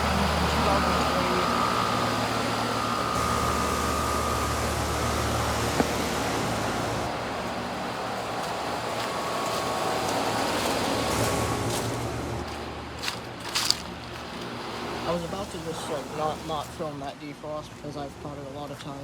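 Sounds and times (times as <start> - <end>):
heat pump compressor and fan hum: 0.0 - 19.0.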